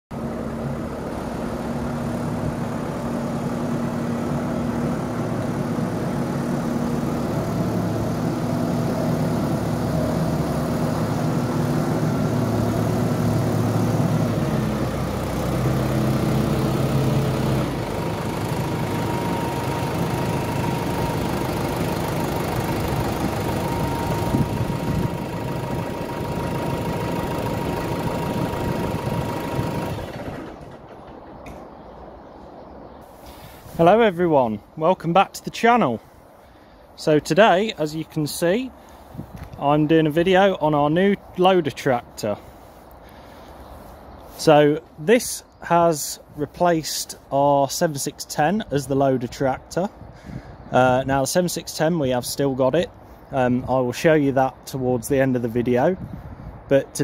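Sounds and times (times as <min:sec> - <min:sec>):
tractor diesel engine running: 0:00.1 - 0:57.0.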